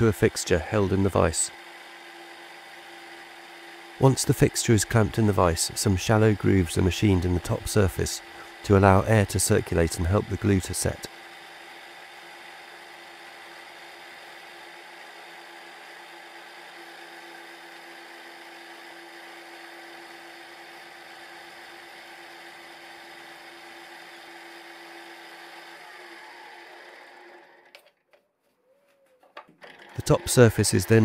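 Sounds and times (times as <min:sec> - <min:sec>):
milling machine whirring: 0:00.0 - 0:27.8, 0:29.6 - 0:31.0.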